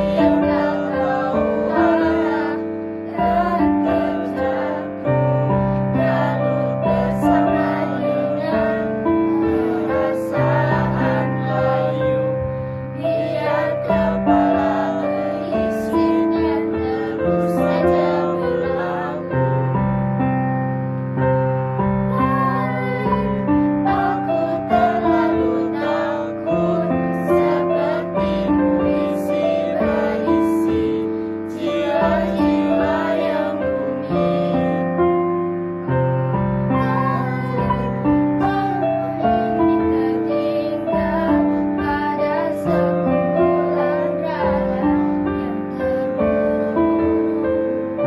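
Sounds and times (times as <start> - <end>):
young voices singing together: 0.0 - 20.0, 22.0 - 35.9, 36.5 - 48.0
electronic keyboard piano chords: 0.0 - 48.0.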